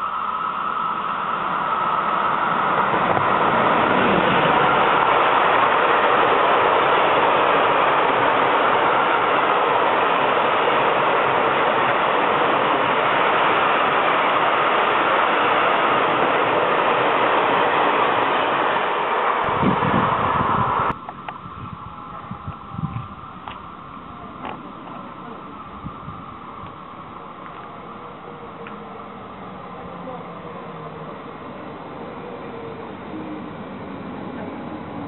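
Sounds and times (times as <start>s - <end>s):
freight train wheels rolling on rails: 0.0s - 35.0s.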